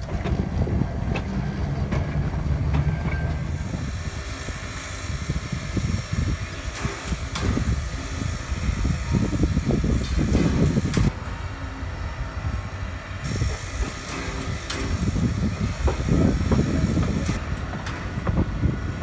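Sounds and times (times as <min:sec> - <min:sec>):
rail clicks: 0:00.0 - 0:11.4, 0:13.2 - 0:19.0
railway cars rumbling past: 0:00.0 - 0:19.0.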